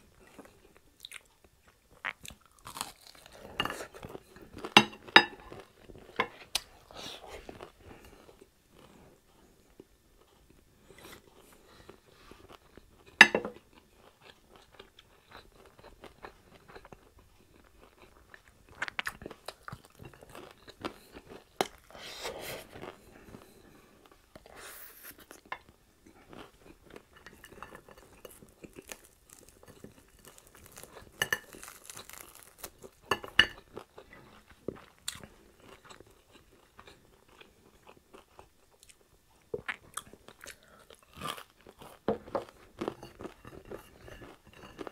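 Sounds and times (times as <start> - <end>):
crunching and chewing crispy food: 0.0 - 24.5, 25.2 - 44.9.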